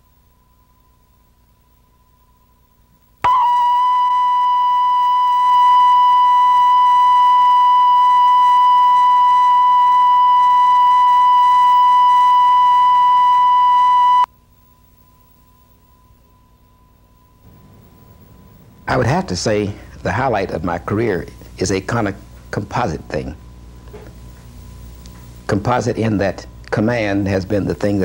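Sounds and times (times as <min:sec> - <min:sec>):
faint tape hum: 0:00.0 - 0:28.0
steady test tone: 0:00.0 - 0:28.0.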